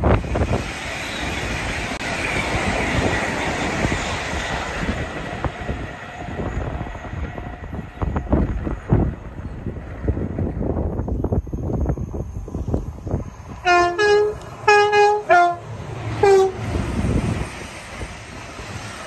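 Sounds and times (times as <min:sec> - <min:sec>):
train passing at speed: 0:00.0 - 0:19.0
wind buffeting microphone: 0:00.0 - 0:19.0.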